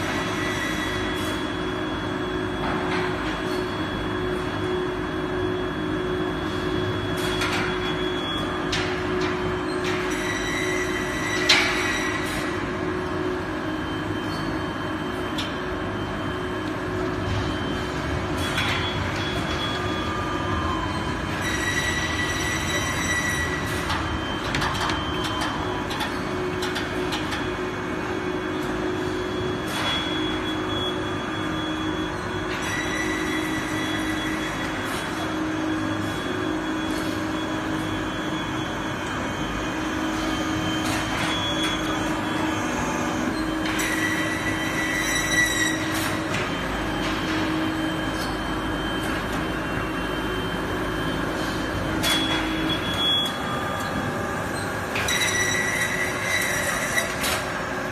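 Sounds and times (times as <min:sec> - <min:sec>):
factory machinery hum: 0:00.0 - 0:57.9
high machine whine: 0:00.0 - 0:57.9.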